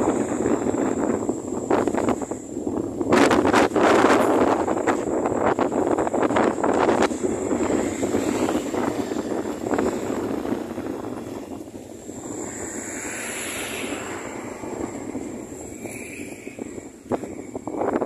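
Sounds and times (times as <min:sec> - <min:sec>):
gusty wind on microphone: 0:00.0 - 0:18.0.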